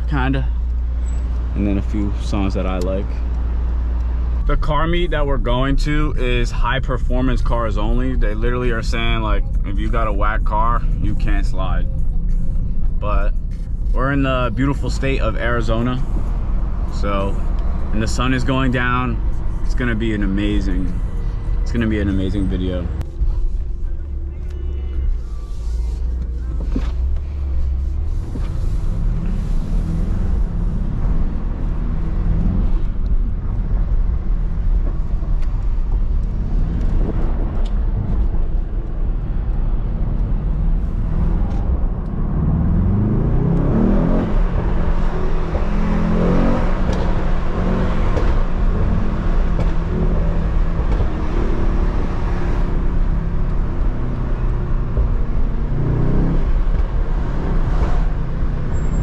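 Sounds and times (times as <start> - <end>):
car engine accelerating: 0.0 - 59.0
road noise inside car: 0.0 - 59.0.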